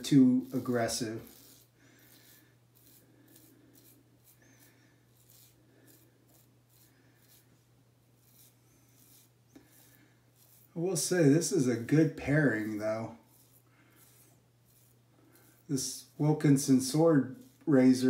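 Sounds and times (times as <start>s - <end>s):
razor scraping stubble: 0.0s - 18.0s.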